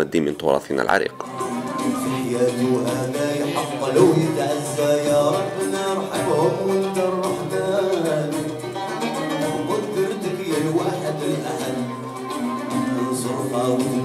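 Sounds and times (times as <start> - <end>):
bowed violins: 1.0 - 14.0
plucked ouds and mandoles: 1.0 - 14.0
man singing: 1.2 - 14.0.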